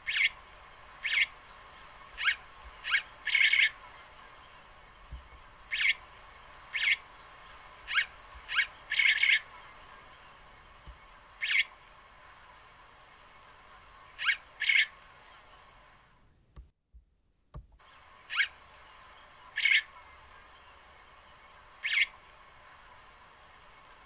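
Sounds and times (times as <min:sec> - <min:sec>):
harsh high bird calls: 0:00.0 - 0:11.9, 0:14.0 - 0:15.5, 0:17.9 - 0:24.0.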